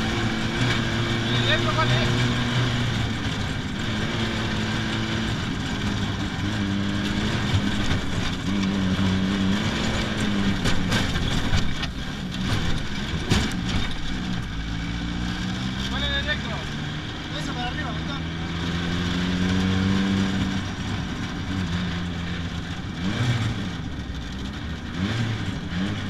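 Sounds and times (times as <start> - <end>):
race car engine: 0.0 - 26.0
road noise: 0.0 - 26.0.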